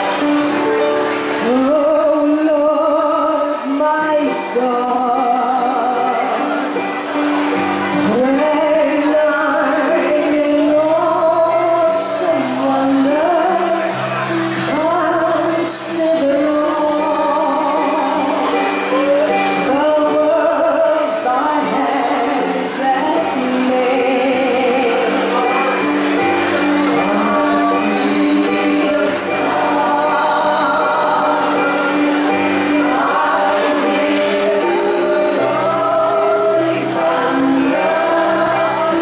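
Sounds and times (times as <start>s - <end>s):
electronic keyboard: 0.0s - 39.0s
group of singers singing: 0.0s - 39.0s.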